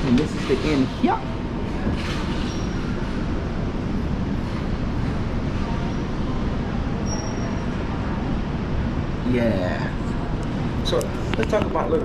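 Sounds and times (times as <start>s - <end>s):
metro train rumble: 0.0s - 12.0s.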